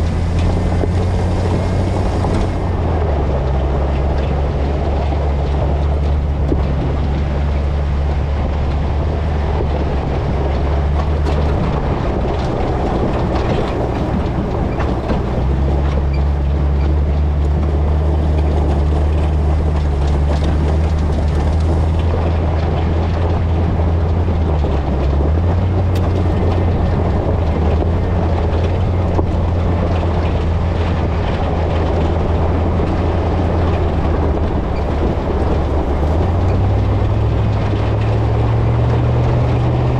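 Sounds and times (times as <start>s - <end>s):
truck engine under load: 0.0s - 39.9s
tyres and suspension rattling: 0.0s - 39.9s.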